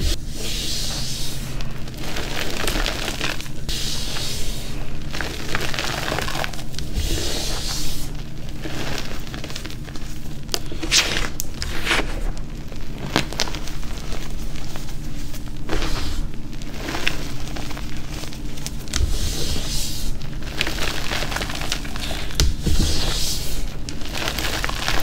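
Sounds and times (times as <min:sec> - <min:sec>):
chalk powder crunching: 0:00.0 - 0:25.0.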